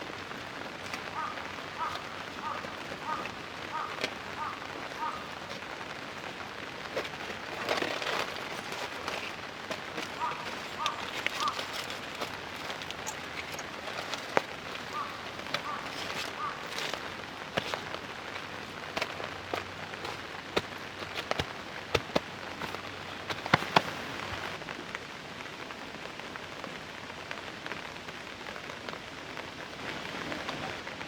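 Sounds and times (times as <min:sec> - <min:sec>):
rain pattering on a tarp: 0:00.0 - 0:31.0.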